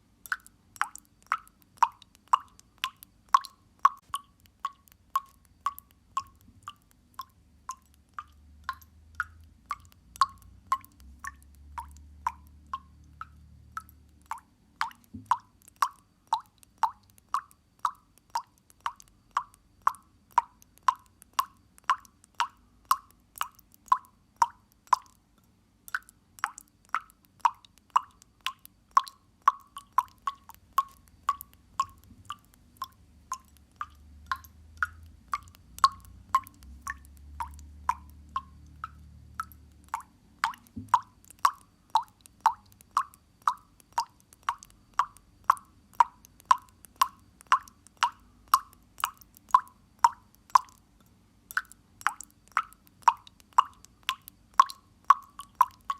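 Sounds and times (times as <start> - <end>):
faint low hum: 0.0 - 55.9
water dripping into water: 0.0 - 55.9.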